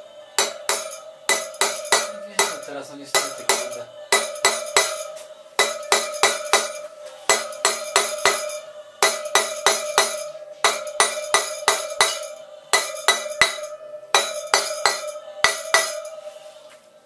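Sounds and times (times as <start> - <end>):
hammer blows on metal: 0.4 - 16.4.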